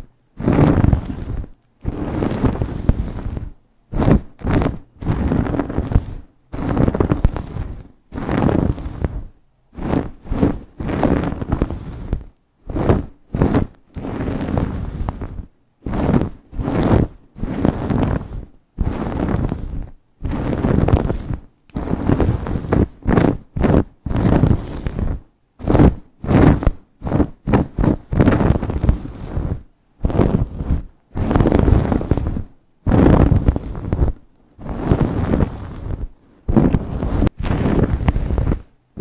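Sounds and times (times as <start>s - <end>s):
nails scratching through hair: 0.0s - 39.0s.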